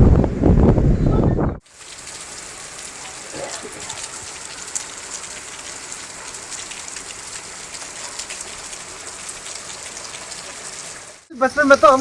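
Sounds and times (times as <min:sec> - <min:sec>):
heavy rain pouring: 0:01.6 - 0:12.0.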